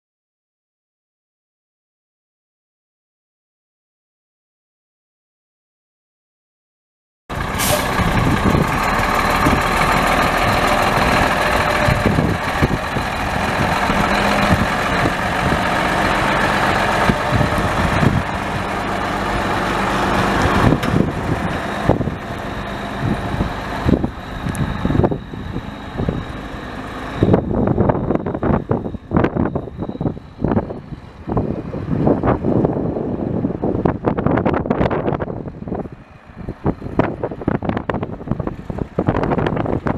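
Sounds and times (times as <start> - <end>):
diesel truck engine running: 7.3 - 39.9.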